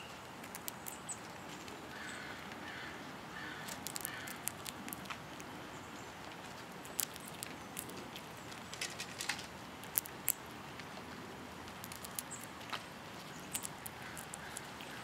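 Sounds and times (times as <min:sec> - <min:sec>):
clicks and crackles of seeds: 0:00.0 - 0:02.8, 0:03.4 - 0:05.6, 0:06.2 - 0:15.0.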